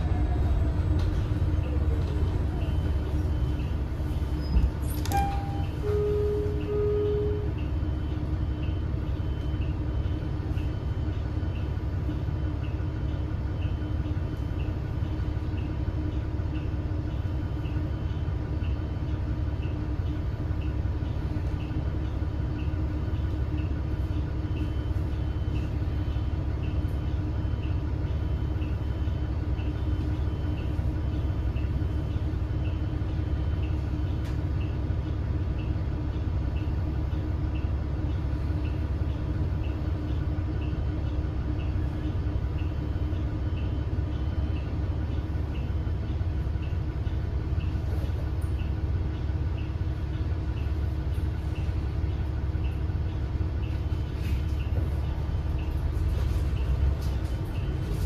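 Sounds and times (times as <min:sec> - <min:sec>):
bus engine rumbling: 0:00.0 - 0:58.0.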